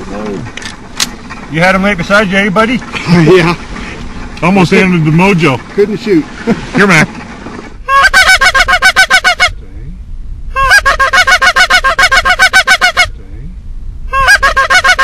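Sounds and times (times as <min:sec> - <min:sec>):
goose-like honking: 0:00.2 - 0:09.6, 0:10.5 - 0:13.2, 0:14.1 - 0:15.0.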